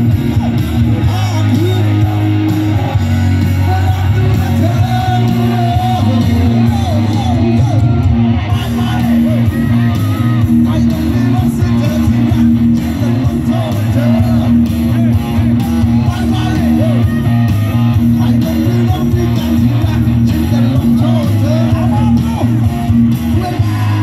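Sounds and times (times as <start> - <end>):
electric guitar: 0.0 - 24.0
heavy bass: 0.0 - 24.0
live rock band through loudspeakers: 0.0 - 24.0
person singing: 1.0 - 24.0.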